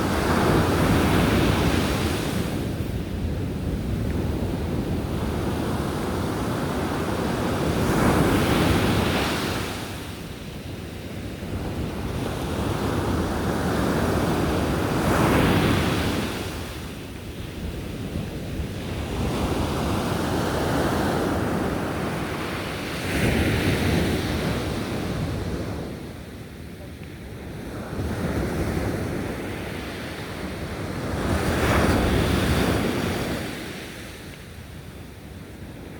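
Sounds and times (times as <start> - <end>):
sea waves crashing on beach: 0.0 - 26.6, 27.4 - 35.9.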